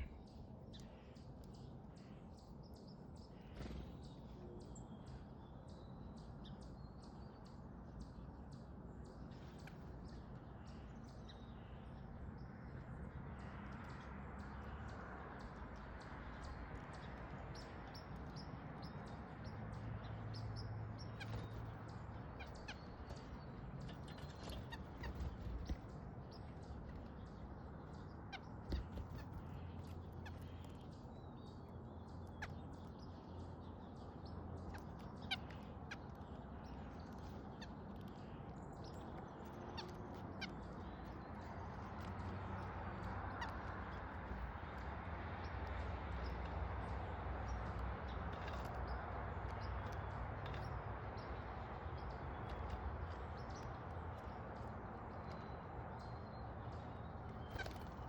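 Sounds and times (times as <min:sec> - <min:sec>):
birds chirping: 0:00.0 - 0:58.0
outdoor background noise: 0:00.0 - 0:58.0.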